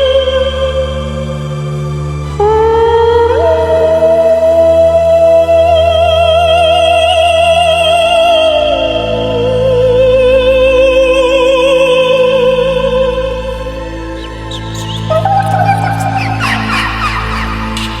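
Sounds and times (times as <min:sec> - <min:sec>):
person singing opera-like note: 0:00.0 - 0:18.0.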